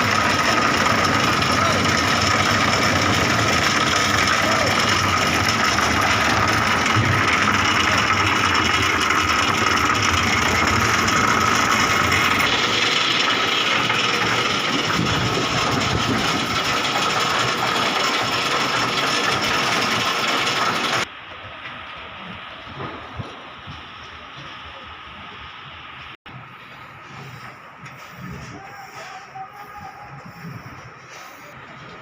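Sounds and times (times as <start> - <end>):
construction machinery humming: 0.0 - 32.0.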